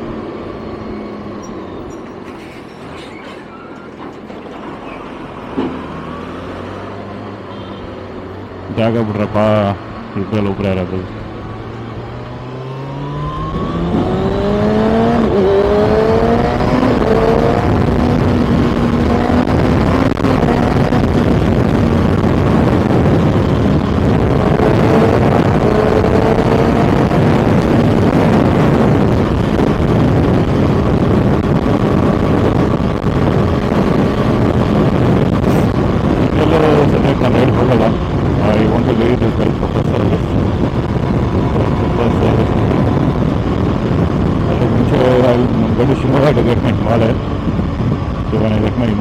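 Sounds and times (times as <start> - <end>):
rush of noise: 0.0 - 49.0
motorcycle engine accelerating: 9.8 - 49.0.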